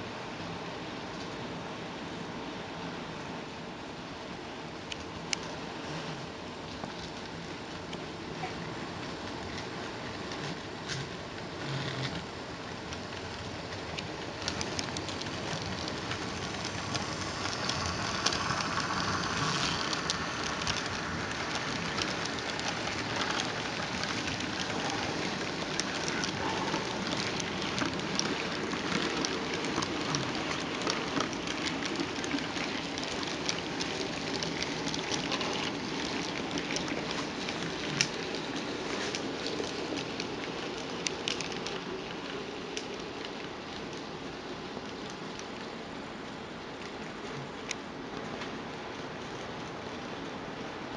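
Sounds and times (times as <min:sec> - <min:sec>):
model train wheels rolling hiss: 0:02.4 - 0:48.0
small irregular clicks: 0:04.8 - 0:50.9.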